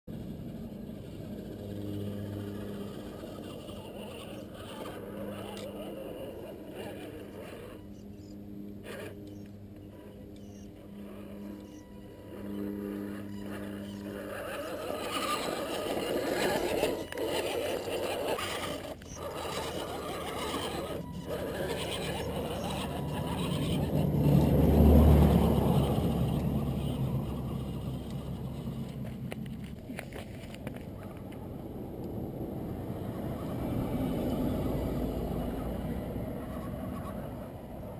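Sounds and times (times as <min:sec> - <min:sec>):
rc truck motor whirring: 0:00.1 - 0:37.9.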